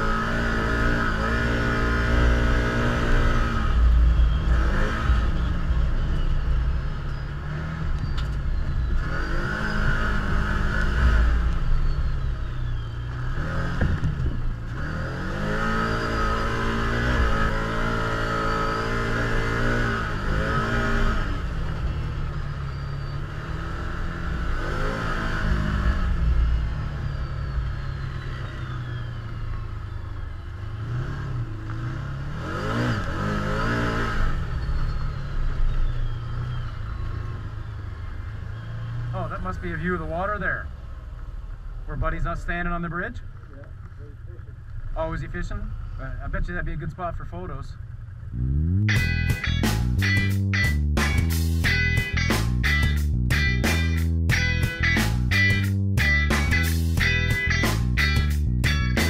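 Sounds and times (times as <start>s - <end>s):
engine revving: 0.0s - 40.7s, 41.8s - 59.0s.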